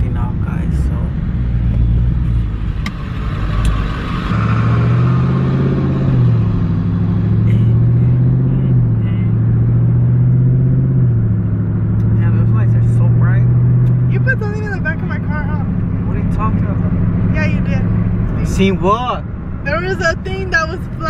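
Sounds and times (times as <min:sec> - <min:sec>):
car engine drone: 0:00.0 - 0:21.0
road noise in car cabin: 0:00.0 - 0:21.0.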